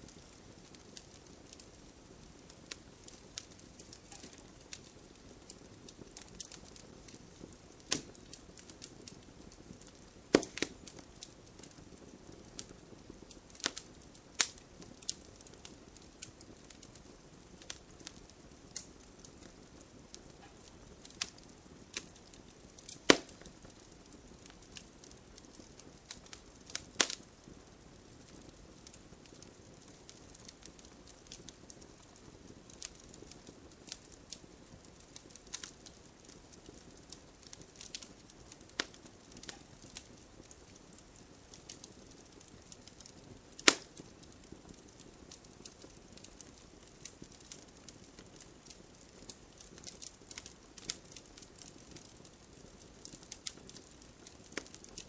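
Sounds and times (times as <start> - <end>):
light rain hissing: 0.0 - 55.0
wood fire crackling: 0.0 - 55.0.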